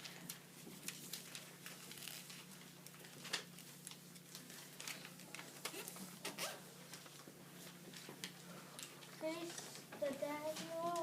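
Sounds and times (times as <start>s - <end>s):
paper being folded: 0.0s - 11.0s.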